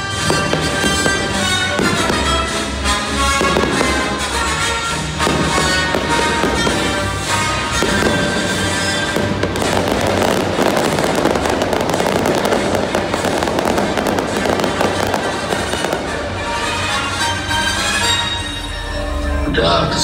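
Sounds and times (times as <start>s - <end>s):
crackling of firework stars: 0.0s - 16.4s
fireworks bursting: 0.0s - 17.3s
music playing: 0.0s - 20.0s.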